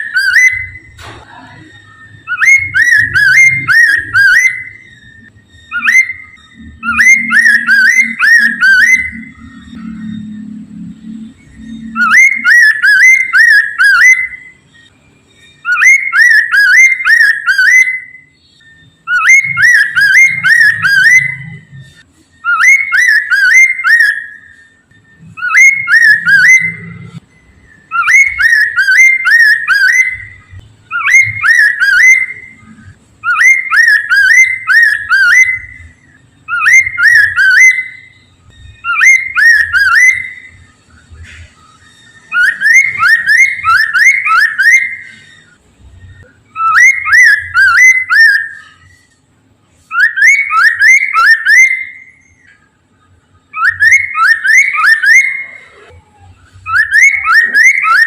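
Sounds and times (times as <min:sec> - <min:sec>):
bird whistled song: 0:00.0 - 0:58.0.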